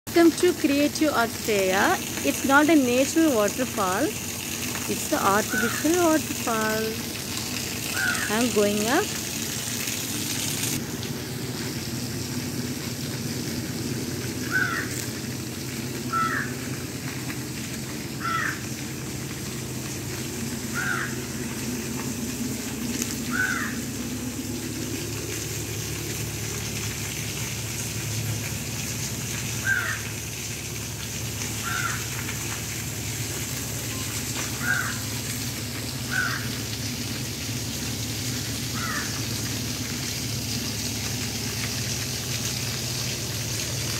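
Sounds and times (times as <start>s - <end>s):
water splashing down rock face: 0.2s - 43.9s.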